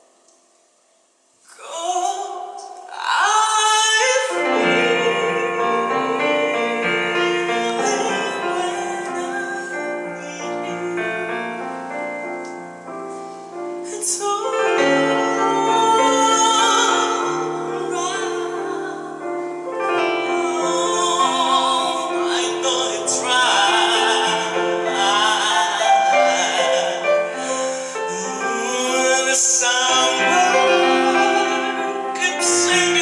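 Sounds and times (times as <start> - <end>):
piano ballad: 0.0 - 33.0
person singing with vibrato: 1.4 - 33.0.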